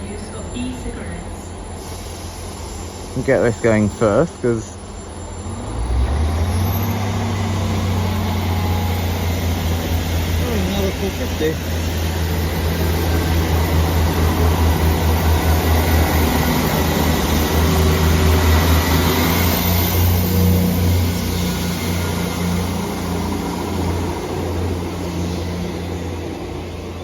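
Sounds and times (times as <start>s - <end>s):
electric train hum and rumble: 0.0s - 27.0s.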